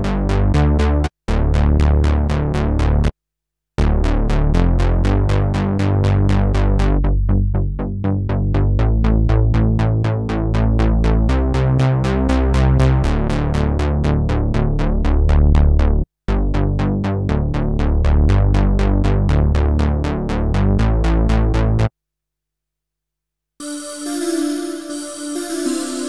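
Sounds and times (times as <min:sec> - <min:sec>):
synth bass plucked notes: 0:00.0 - 0:03.1, 0:03.8 - 0:21.9.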